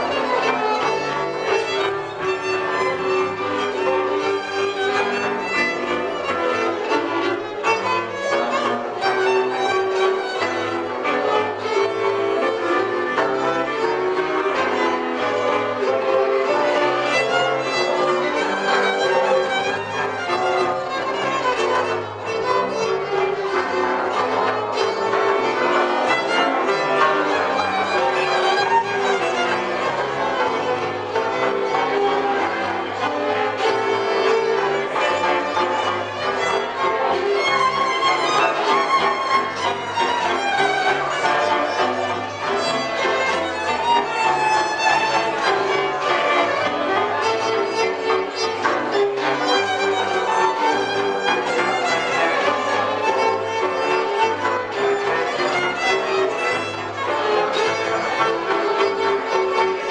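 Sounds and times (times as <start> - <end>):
bowed strings: 0.0 - 59.9
violin playing lively tune: 0.0 - 59.9.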